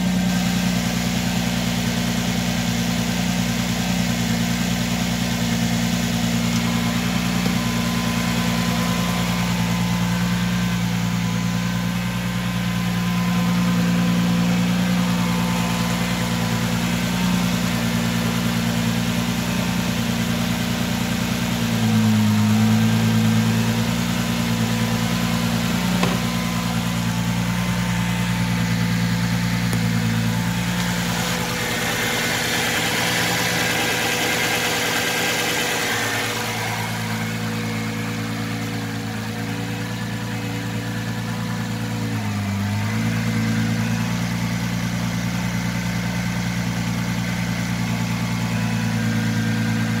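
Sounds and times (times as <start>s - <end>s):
car engine idling: 0.0s - 50.0s.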